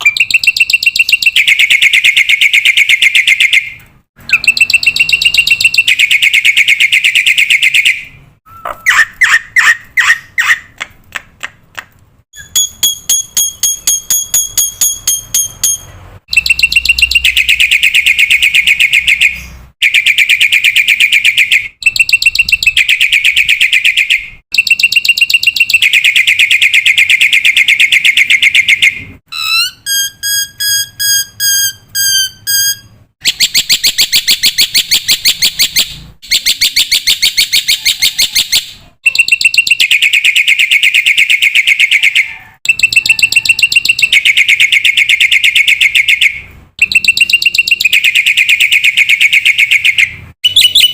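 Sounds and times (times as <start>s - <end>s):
bird song with buzzy trills: 0.0s - 10.7s, 12.4s - 41.7s, 42.7s - 50.9s.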